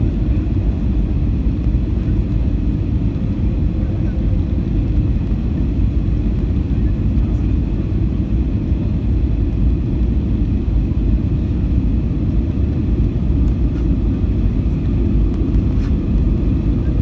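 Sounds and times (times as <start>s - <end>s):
faint steady whine: 0.0s - 17.0s
jet engine and airflow rumble: 0.0s - 17.0s.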